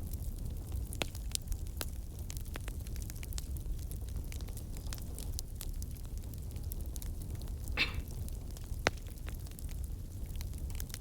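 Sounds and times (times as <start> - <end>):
campfire crackling and popping: 0.0 - 11.0
low rumble of burning fire: 0.0 - 11.0.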